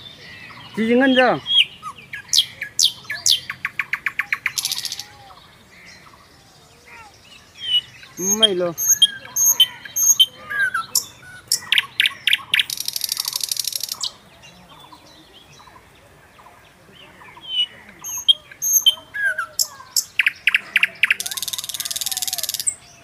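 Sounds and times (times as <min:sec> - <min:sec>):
dry bird trill: 0:00.0 - 0:15.0, 0:17.1 - 0:23.0
birds chirping: 0:00.0 - 0:23.0.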